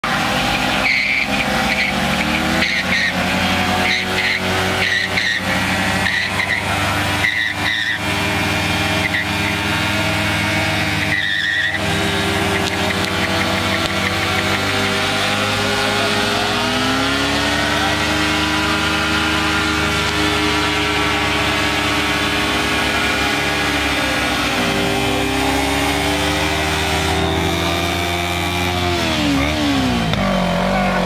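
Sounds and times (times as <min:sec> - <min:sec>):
tyres squealing on paving: 0:00.0 - 0:27.7
motorcycle engines revving high: 0:00.0 - 0:31.0.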